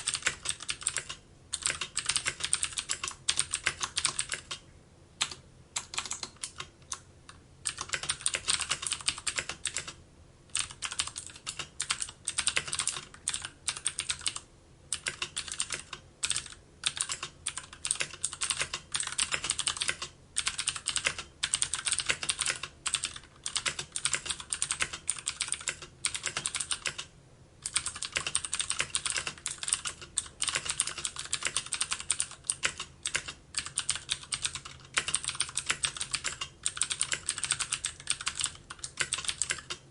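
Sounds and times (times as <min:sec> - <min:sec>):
computer keyboard typing: 0:00.0 - 0:04.6, 0:05.2 - 0:39.9.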